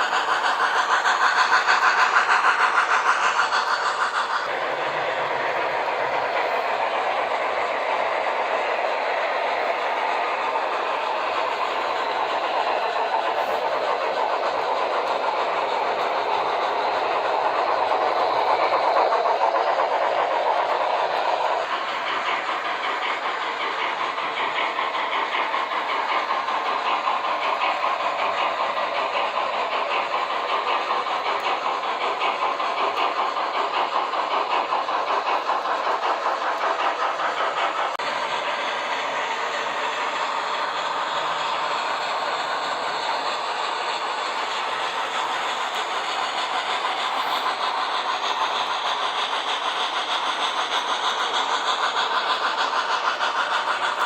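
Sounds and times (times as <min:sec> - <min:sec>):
model train wheel and motor noise: 0:00.0 - 0:54.0
steam engine chuffing from speaker: 0:00.0 - 0:54.0.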